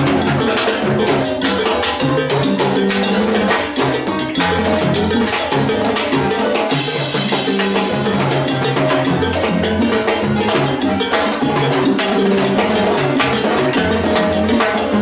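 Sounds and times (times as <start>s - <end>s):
salsa band playing: 0.0s - 15.0s.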